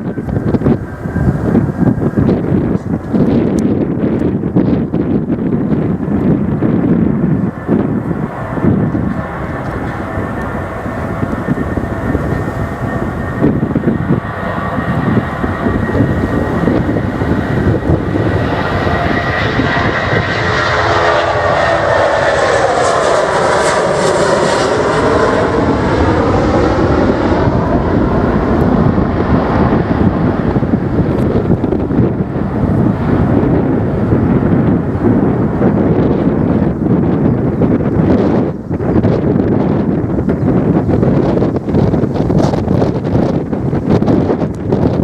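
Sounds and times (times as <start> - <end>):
airliner engines passing: 0.0 - 45.0
wind buffeting microphone: 0.0 - 45.0.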